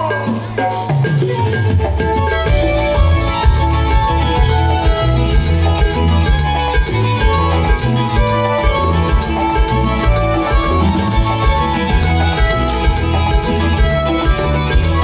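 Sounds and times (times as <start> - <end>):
band playing dance music: 0.0 - 15.0.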